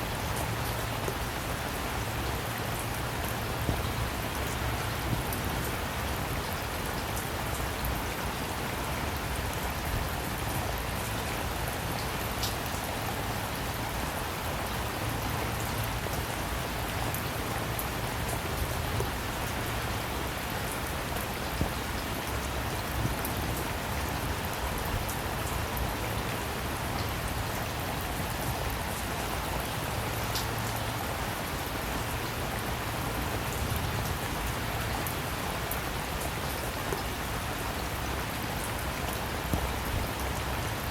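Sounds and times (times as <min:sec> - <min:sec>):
raindrops ticking on a surface: 0:00.0 - 0:40.9
steady rain hissing: 0:00.0 - 0:40.9.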